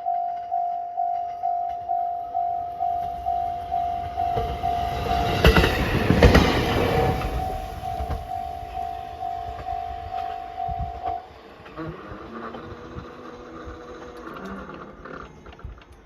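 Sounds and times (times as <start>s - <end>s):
level crossing warning bell: 0.0s - 11.7s, 13.5s - 16.0s
train wheels knocking on rail joints: 2.8s - 15.9s.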